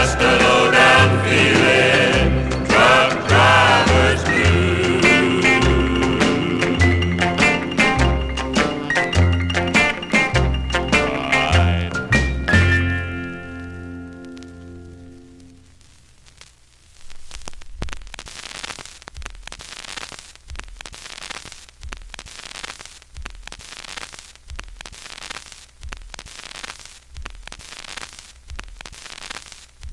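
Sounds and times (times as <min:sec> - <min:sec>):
vinyl surface hiss and crackle: 0:00.0 - 0:11.6, 0:12.5 - 0:29.9.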